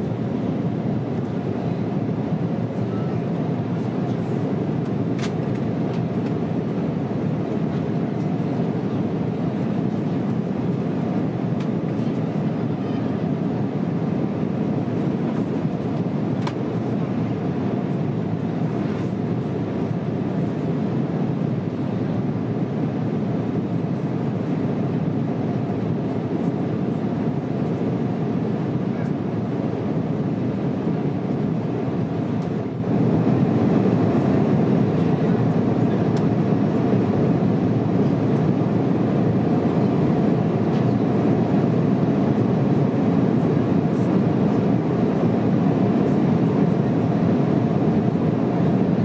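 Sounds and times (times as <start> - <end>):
jet airliner cabin rumble: 0.0 - 49.0.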